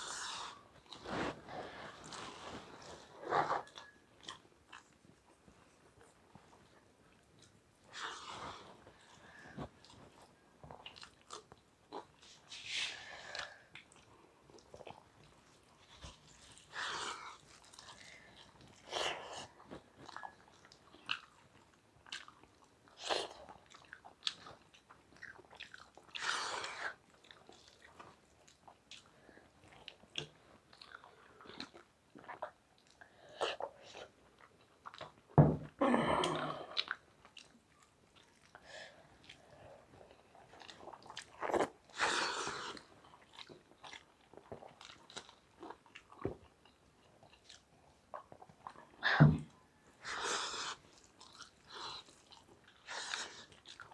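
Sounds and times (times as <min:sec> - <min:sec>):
close chewing and mouth sounds: 0:00.0 - 0:53.9.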